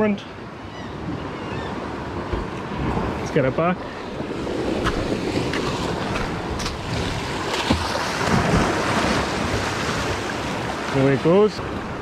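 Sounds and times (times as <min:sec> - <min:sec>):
waves breaking against rocks: 0:02.2 - 0:12.0.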